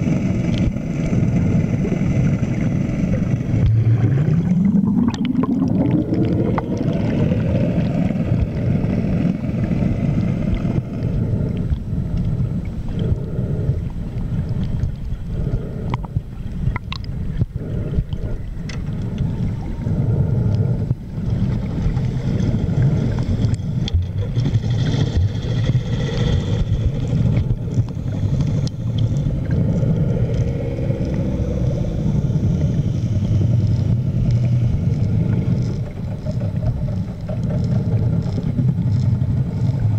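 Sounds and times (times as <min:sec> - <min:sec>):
low underwater rumble: 0:00.0 - 0:39.9.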